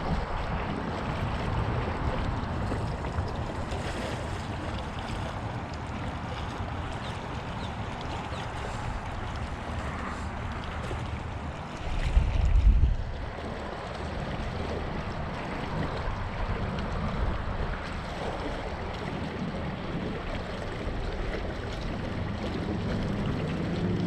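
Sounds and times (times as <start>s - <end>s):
boat motor humming: 0.0s - 24.0s
wind buffeting the microphone: 0.0s - 24.0s.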